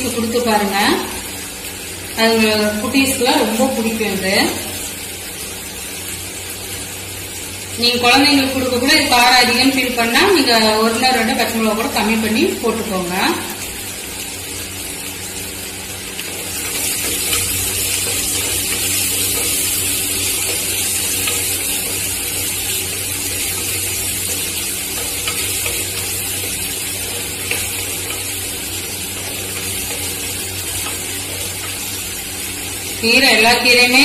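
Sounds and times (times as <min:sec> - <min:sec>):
shallots sizzling in oil: 0:00.0 - 0:34.0.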